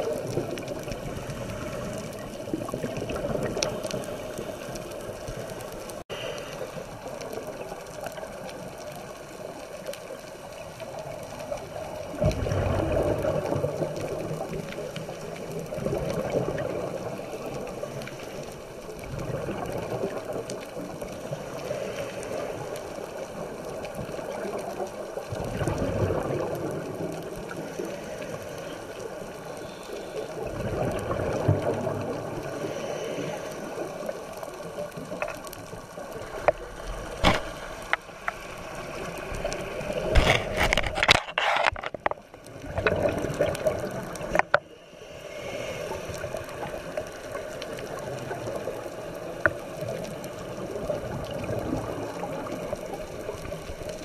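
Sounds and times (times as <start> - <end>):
rumbling exhaled bubbles: 0.0 - 54.0.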